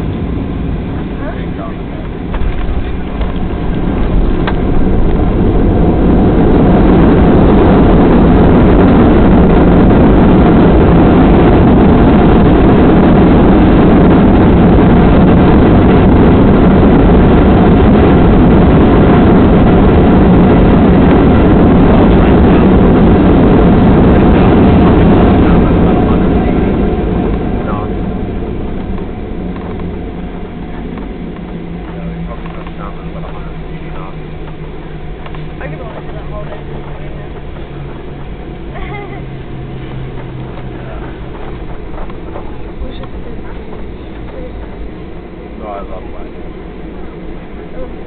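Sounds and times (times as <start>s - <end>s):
jet engines and rushing air: 0.0s - 48.0s.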